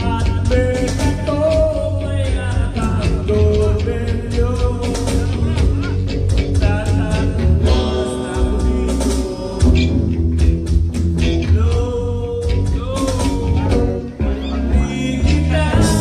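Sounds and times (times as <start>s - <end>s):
person singing into a microphone: 0.0s - 9.9s, 11.4s - 16.0s
electric guitar: 0.0s - 16.0s
steady drum beat: 0.0s - 16.0s.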